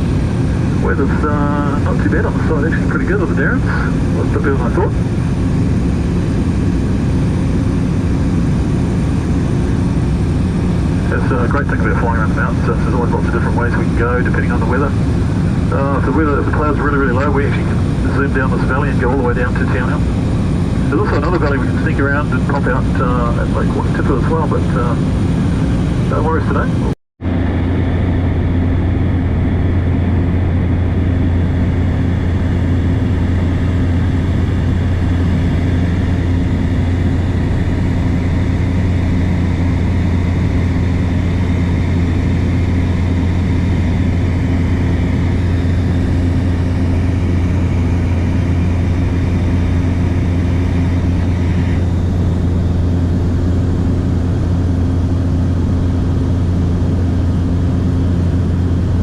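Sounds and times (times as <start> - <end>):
plane engine droning in cabin: 0.0 - 59.0.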